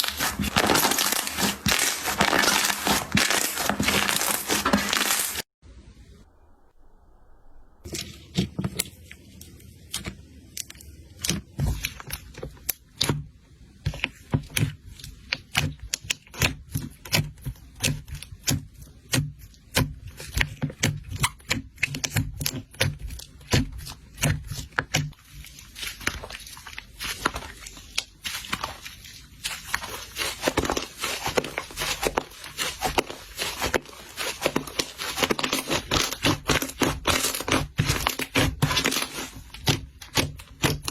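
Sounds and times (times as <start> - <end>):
slime clicking and crackling: 0.0 - 5.4, 8.8 - 40.9.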